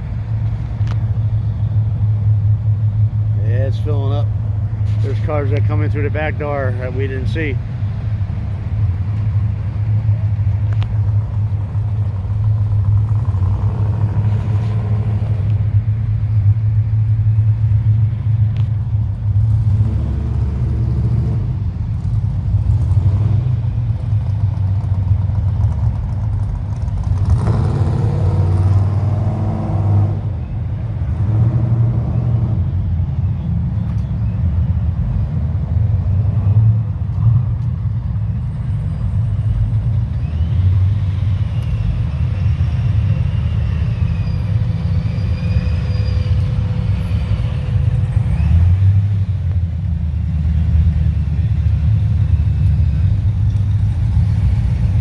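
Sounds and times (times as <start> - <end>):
car engines running: 0.0 - 55.0
vehicles moving close by: 0.0 - 55.0.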